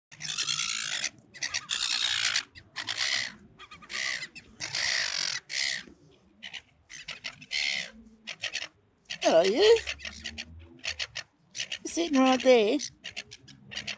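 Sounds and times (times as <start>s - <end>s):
gulls calling: 0.1s - 13.9s.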